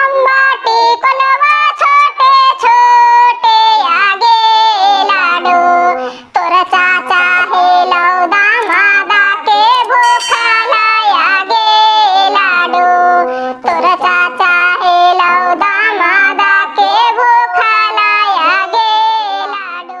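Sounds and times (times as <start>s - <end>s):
high-pitched cartoon voice singing: 0.0s - 20.0s.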